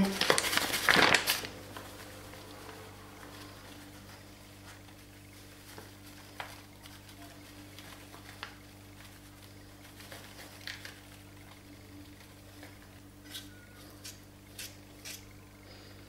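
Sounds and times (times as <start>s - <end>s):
paper packet rustling: 0.0s - 13.5s
steady low hum: 0.0s - 16.0s.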